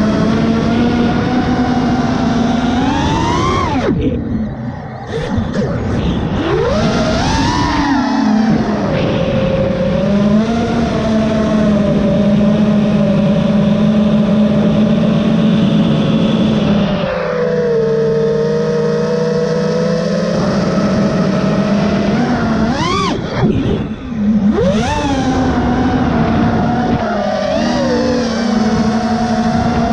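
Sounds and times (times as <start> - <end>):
quadcopter motors whining: 0.0 - 29.9.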